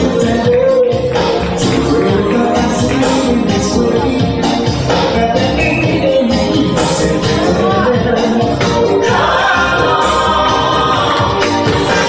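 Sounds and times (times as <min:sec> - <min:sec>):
music with singing over a beat: 0:00.0 - 0:12.0.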